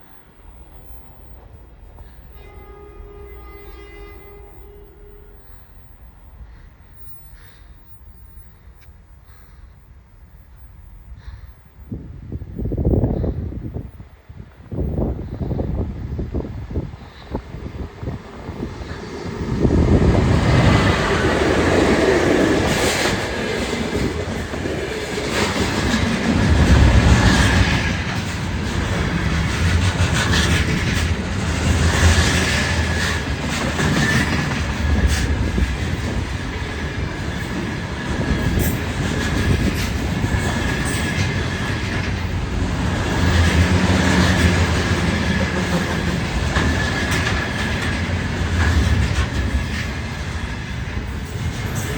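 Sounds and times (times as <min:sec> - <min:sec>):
train wheels rumbling over rails: 0:05.9 - 0:51.9.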